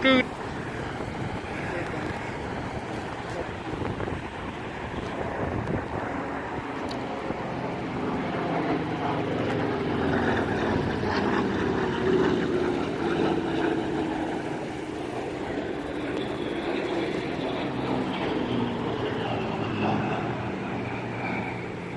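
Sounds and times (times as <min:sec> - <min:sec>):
propeller plane flying past: 0:00.0 - 0:21.9.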